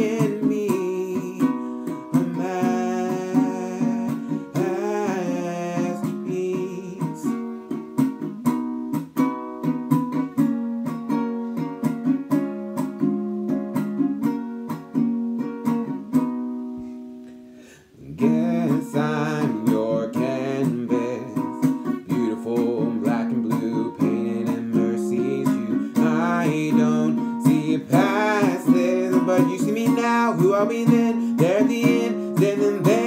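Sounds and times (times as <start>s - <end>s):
ukulele strumming: 0.0s - 33.0s.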